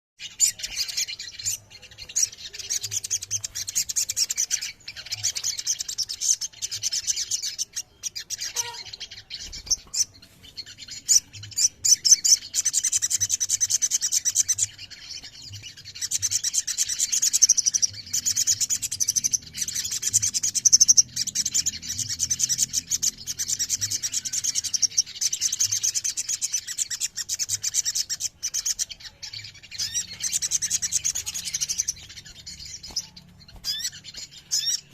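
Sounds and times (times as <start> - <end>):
birds chirping and trilling: 0.2 - 34.9.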